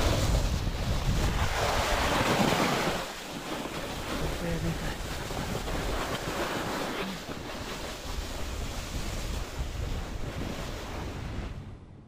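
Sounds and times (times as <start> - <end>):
snowboard sliding over snow: 0.0 - 11.7
wind buffeting microphone: 0.0 - 12.0.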